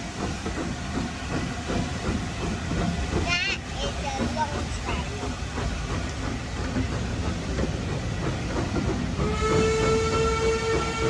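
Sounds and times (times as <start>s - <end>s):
clanks and wheel clatter: 0.0s - 11.0s
train coaches rumbling on rails: 0.0s - 11.0s.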